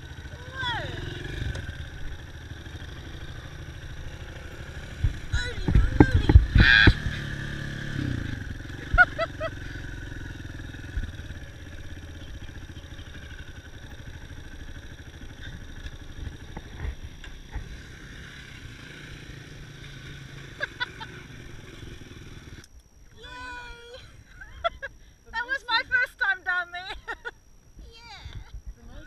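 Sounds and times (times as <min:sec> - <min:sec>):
dirt bike engine running: 0:00.0 - 0:27.4.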